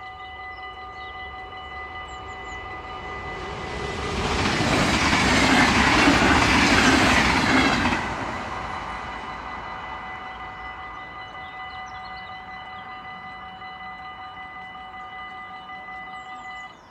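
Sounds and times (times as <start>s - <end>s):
level-crossing warning bell: 0.0s - 16.9s
train passing at speed: 0.0s - 16.9s.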